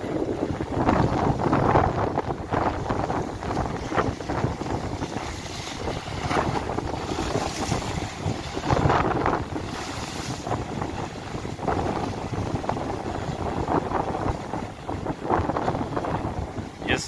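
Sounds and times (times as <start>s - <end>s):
waves crashing against seawall: 0.0s - 17.0s
wind buffeting microphone: 0.0s - 17.0s.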